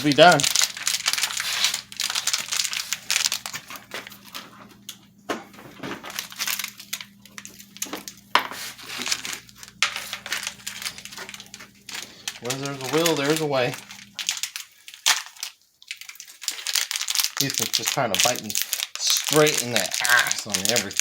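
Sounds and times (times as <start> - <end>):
hands crinkling and rustling parts: 0.0 - 21.0.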